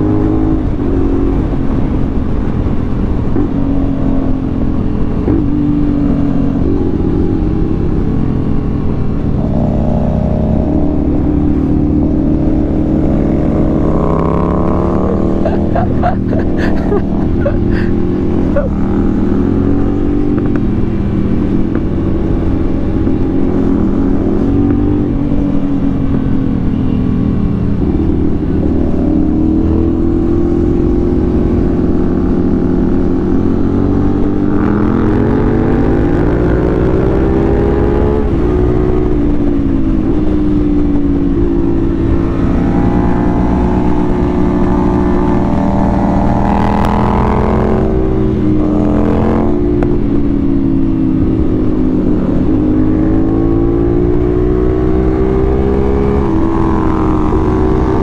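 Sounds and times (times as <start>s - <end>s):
motorcycle engine: 0.0s - 58.0s
wind rumble: 0.0s - 58.0s.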